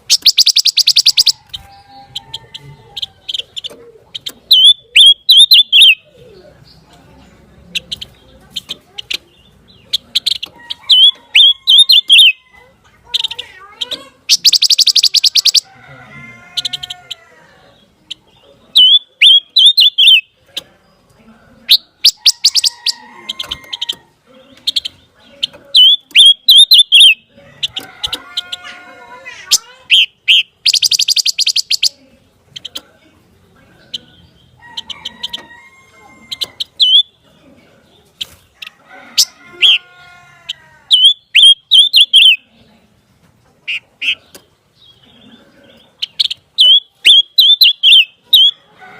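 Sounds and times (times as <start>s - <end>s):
songbird singing trills: 0.0s - 12.4s, 13.0s - 42.7s, 43.6s - 48.8s.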